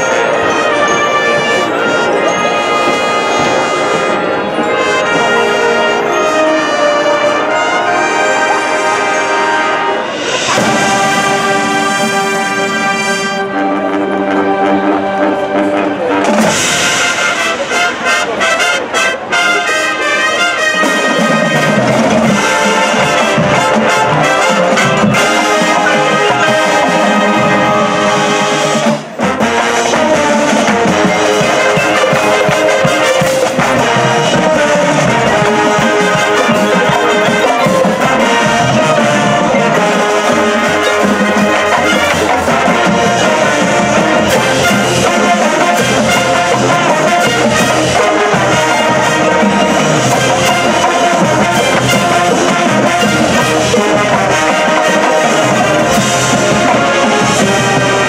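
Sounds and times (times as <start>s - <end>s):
marching band brass chords: 0.0s - 58.0s.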